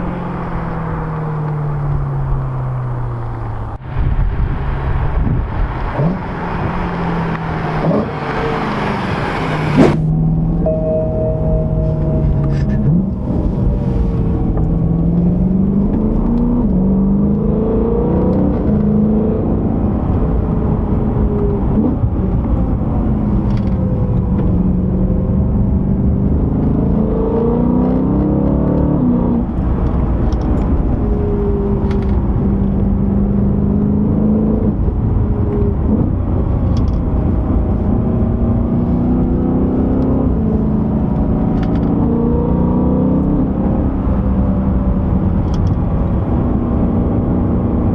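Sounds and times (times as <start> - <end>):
car engine accelerating hard: 0.0 - 47.9.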